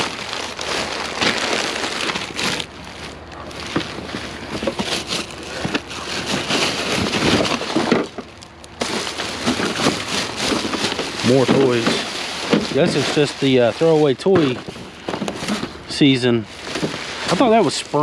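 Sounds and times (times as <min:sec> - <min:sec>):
hands rummaging through plastic items: 0:00.0 - 0:18.0.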